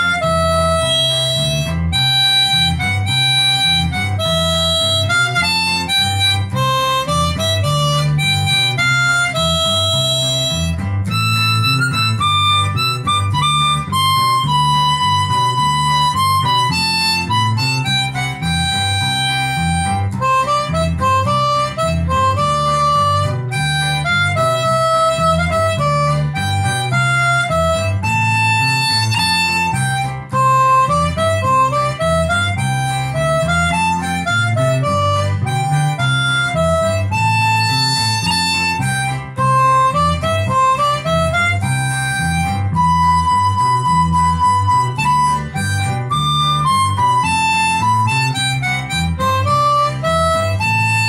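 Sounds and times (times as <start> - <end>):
harmonica melody: 0.0 - 51.0
low accompaniment: 0.0 - 51.0.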